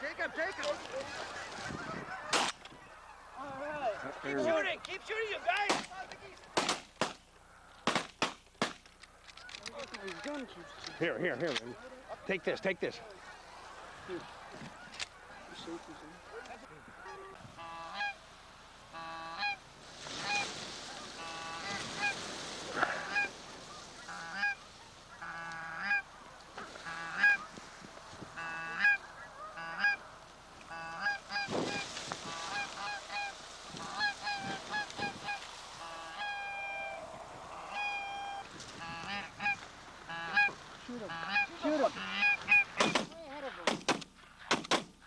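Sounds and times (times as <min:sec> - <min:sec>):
geese honking: 0:00.0 - 0:08.0, 0:09.1 - 0:44.5.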